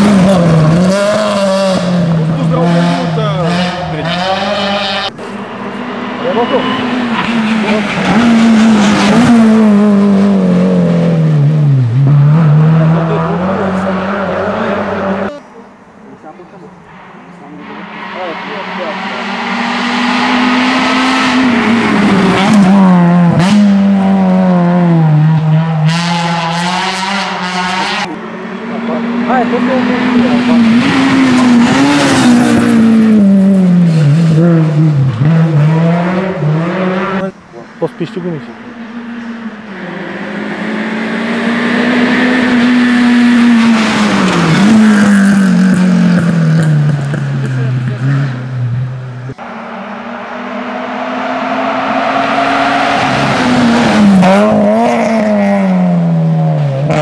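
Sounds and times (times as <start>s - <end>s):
rally car engine at full throttle: 0.0s - 57.0s.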